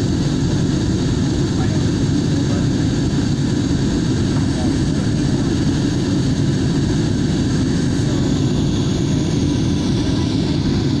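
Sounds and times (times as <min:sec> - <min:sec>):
jet cabin engine and airflow noise: 0:00.0 - 0:11.0.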